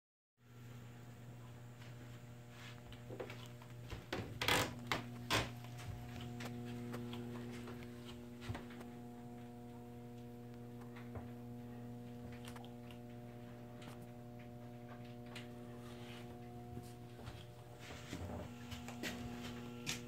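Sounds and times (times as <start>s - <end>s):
low machinery hum: 0.4s - 20.0s.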